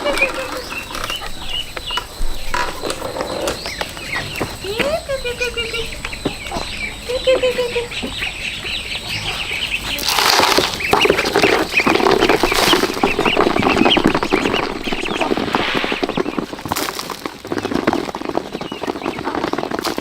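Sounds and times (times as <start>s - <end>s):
poultry clucking: 0.0s - 20.0s.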